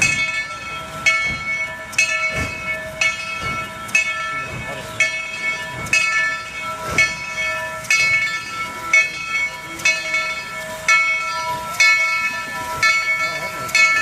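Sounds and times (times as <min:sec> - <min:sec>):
locomotive bell ringing: 0:00.0 - 0:14.0.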